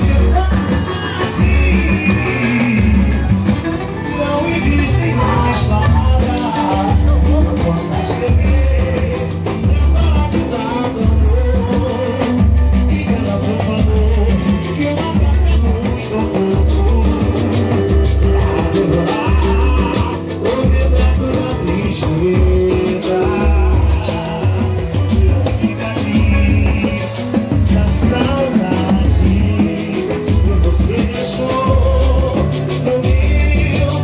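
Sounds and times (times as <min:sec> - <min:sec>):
acoustic guitar: 0:00.0 - 0:34.0
bass line: 0:00.0 - 0:34.0
percussion strokes: 0:00.0 - 0:34.0
person singing: 0:00.0 - 0:34.0.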